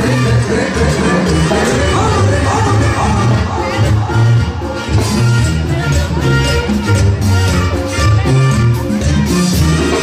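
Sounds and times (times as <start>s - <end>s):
banda music playing: 0.0s - 10.0s
bass line: 0.0s - 10.0s.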